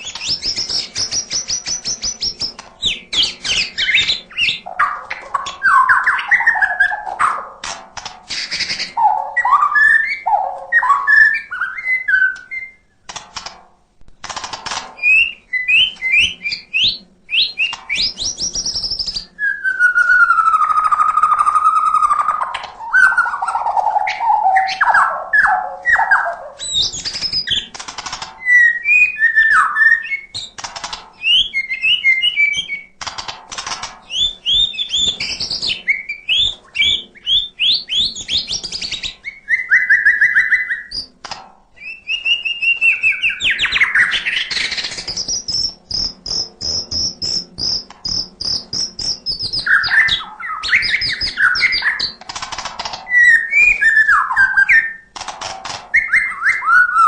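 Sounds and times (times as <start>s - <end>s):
bird singing varied song: 0.0s - 7.6s, 8.3s - 13.1s, 15.0s - 33.0s, 34.0s - 41.2s, 41.8s - 55.1s, 55.9s - 57.0s.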